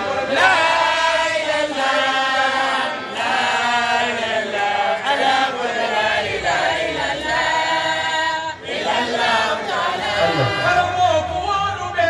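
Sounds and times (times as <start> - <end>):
men chanting religious verses: 0.0 - 12.0.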